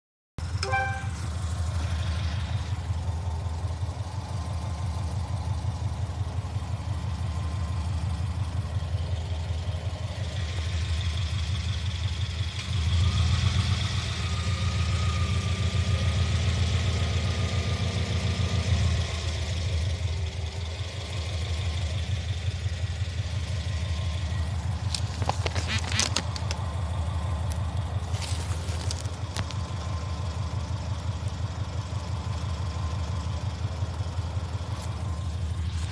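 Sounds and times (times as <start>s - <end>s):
car engine idling and revving: 0.4s - 35.9s.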